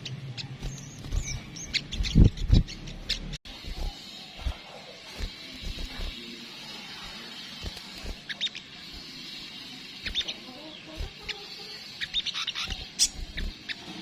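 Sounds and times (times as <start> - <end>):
sunbird high chirps: 0.0 - 14.0.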